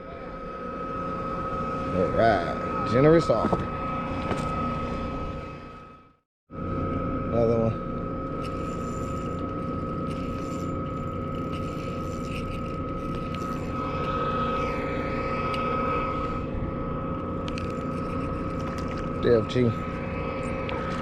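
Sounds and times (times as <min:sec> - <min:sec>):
mechanical drone with whining tone: 0:00.0 - 0:21.0.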